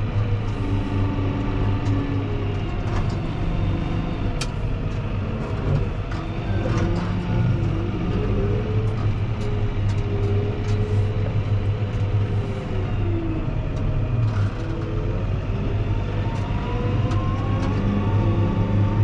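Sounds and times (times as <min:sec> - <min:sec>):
tractor diesel engine running: 0:00.0 - 0:16.5
engine whine: 0:00.0 - 0:19.0.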